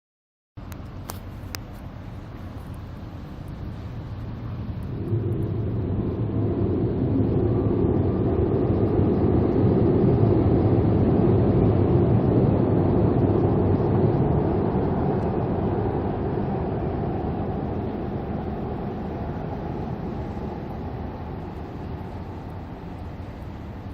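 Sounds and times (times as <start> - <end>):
boat engine rumbling: 0.6 - 23.9.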